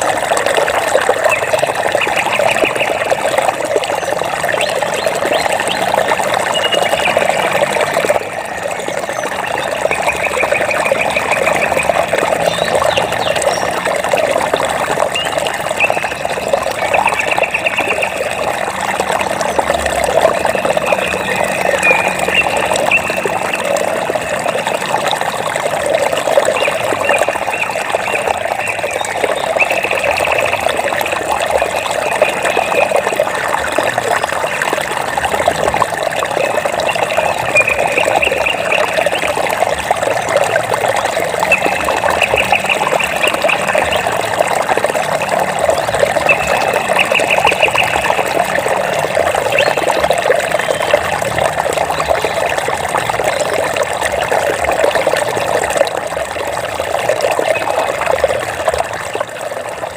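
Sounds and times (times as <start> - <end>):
running water splashing: 0.0 - 59.9.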